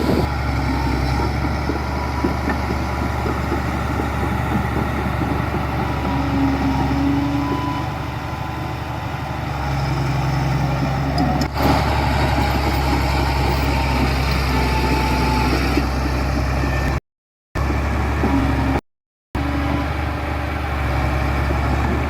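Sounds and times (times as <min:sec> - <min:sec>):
construction machinery engine hum: 0:00.0 - 0:17.0, 0:17.6 - 0:18.8, 0:19.4 - 0:22.0.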